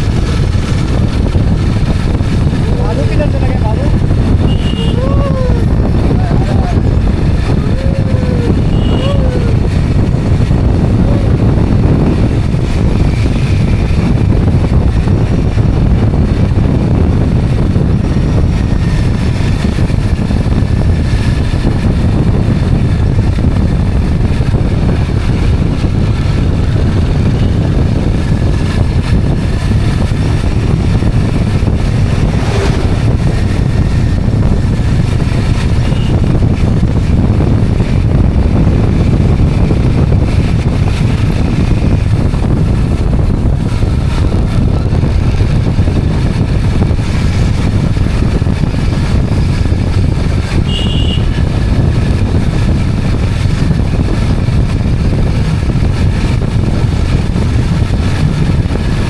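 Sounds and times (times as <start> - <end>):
motorcycle rumble: 0.0 - 59.0
wind on microphone: 0.0 - 59.0.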